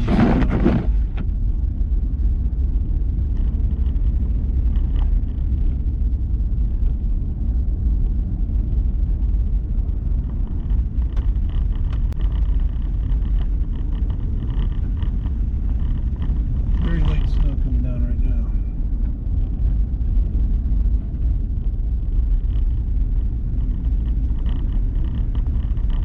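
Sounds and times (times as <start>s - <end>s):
road and engine rumble in cabin: 0.0s - 26.0s.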